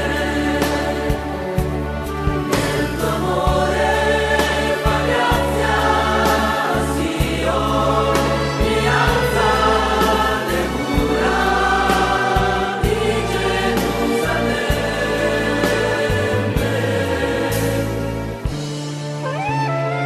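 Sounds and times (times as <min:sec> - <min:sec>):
choir singing held notes: 0:00.0 - 0:18.6.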